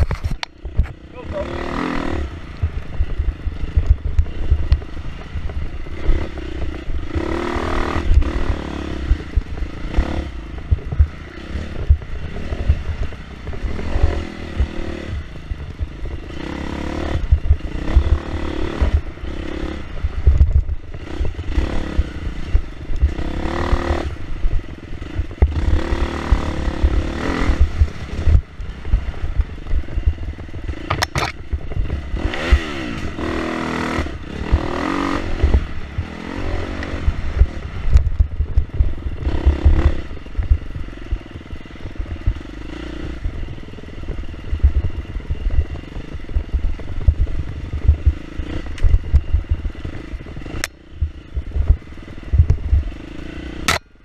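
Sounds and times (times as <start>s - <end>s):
wind rumble on microphone: 0.0s - 54.0s
dirt bike engine revving: 0.6s - 53.9s.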